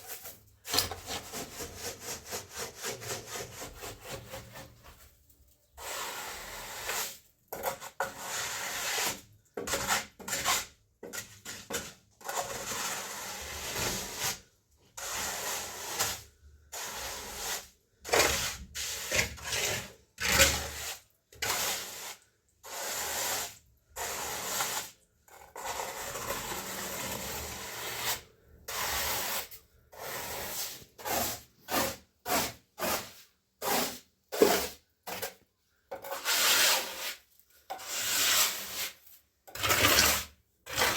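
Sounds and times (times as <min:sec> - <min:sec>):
hand tool scraping rough surface: 0:00.0 - 0:05.0, 0:05.8 - 0:40.9.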